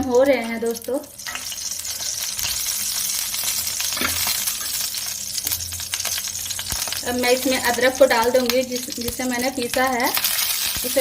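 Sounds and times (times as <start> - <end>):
ghee sizzling in a pan: 0.0 - 11.0.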